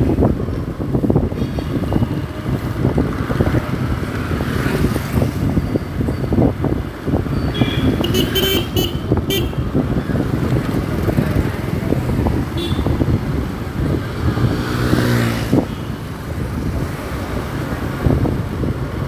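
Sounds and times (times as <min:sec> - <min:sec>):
motorcycle engine and road noise: 0:00.0 - 0:19.0
wind buffeting microphone: 0:00.0 - 0:19.0.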